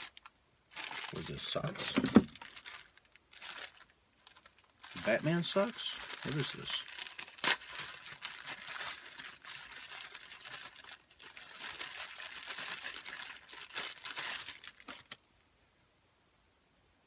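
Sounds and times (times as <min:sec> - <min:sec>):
packaging crinkling: 0:00.0 - 0:15.3.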